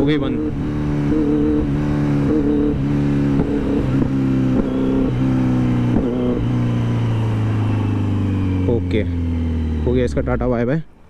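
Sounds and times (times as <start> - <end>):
motorcycle rolling drone: 0.0 - 11.0.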